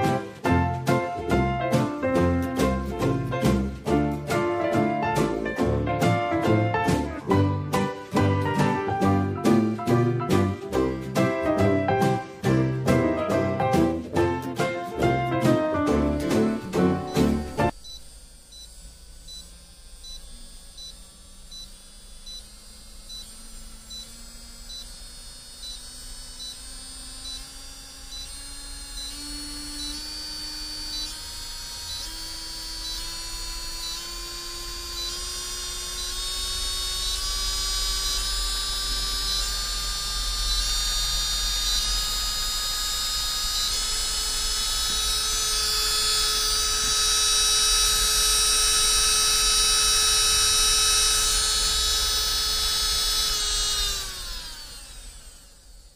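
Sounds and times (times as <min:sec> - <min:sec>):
nail drill motor whining: 0:00.0 - 0:13.5, 0:14.2 - 0:55.9.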